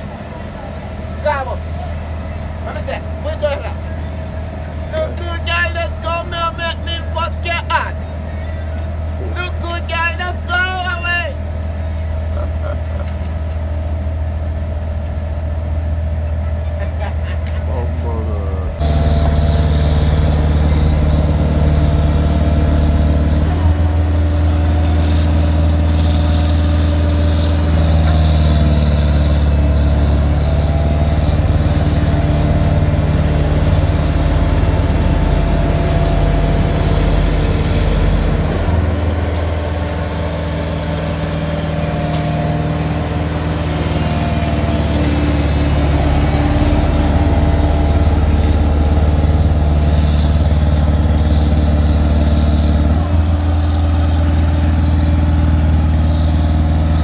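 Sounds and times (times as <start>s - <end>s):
heavy diesel engine humming: 0.0s - 57.0s.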